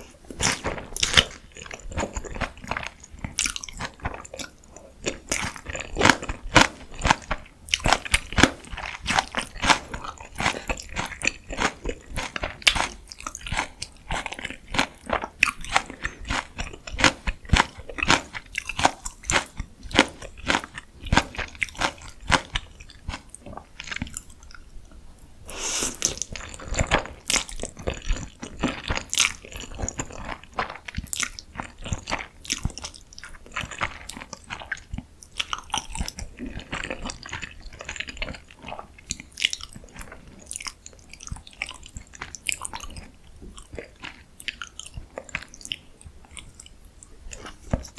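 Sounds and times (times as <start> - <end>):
chewing crispy fried food: 0.0 - 47.9.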